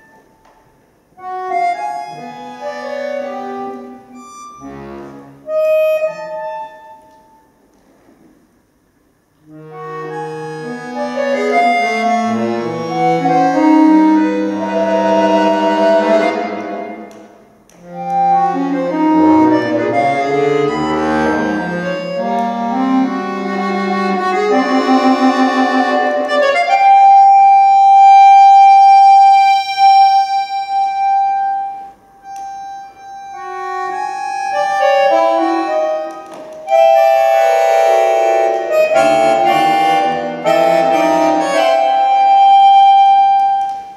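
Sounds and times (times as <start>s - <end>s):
accordion chords: 0.0s - 7.8s, 8.6s - 43.9s
high accordion note held: 1.2s - 7.5s, 9.4s - 43.9s.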